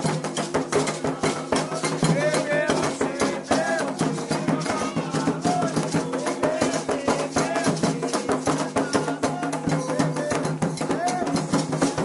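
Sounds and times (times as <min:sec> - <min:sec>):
hand drums: 0:00.0 - 0:12.0
voices singing a chant: 0:00.0 - 0:12.0.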